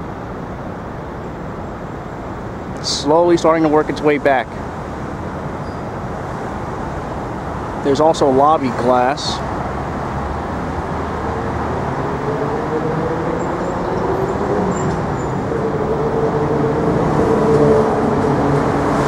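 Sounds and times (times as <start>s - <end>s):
city street traffic: 0.0s - 19.0s
large vehicle engine humming: 0.0s - 19.0s.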